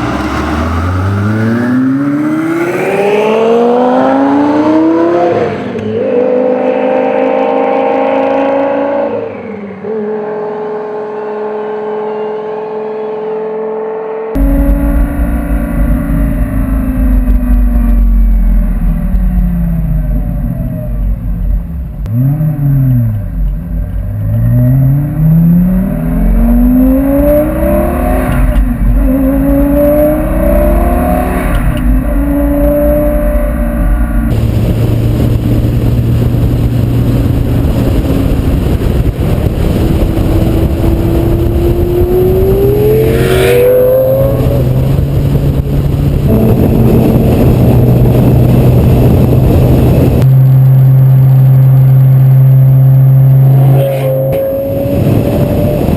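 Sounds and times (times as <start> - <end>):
car engine accelerating hard: 0.0 - 55.9.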